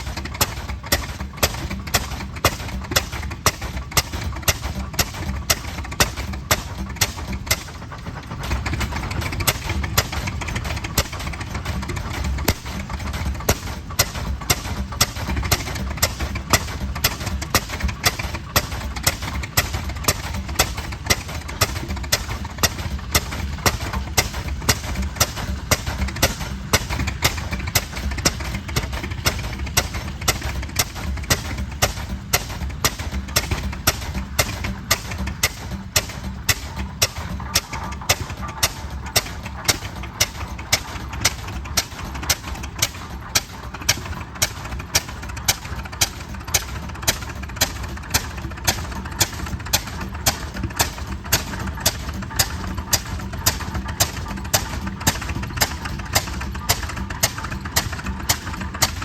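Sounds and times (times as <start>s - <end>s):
old tractor engine banging: 0.0s - 59.0s.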